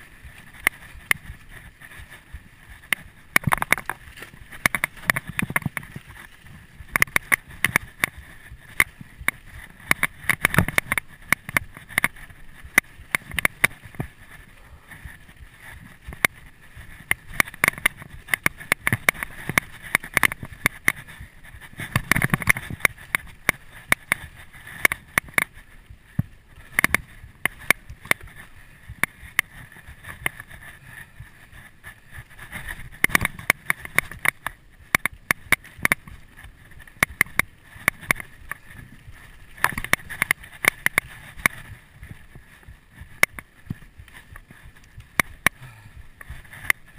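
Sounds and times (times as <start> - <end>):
bike chain and frame clatter: 0.0 - 46.9
tyre noise on dirt: 0.0 - 46.9.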